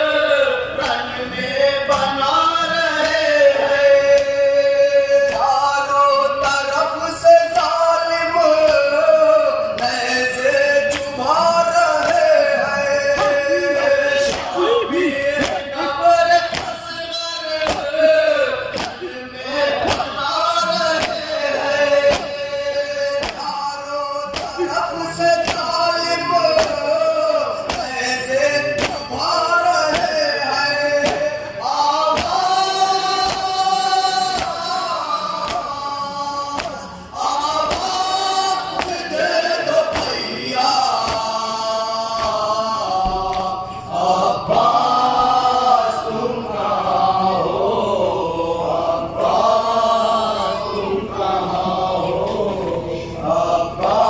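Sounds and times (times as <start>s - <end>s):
men chanting in unison: 0.0s - 54.0s.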